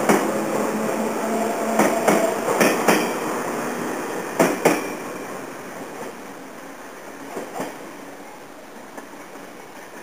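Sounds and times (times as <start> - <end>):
electric train running past: 0.0 - 10.0.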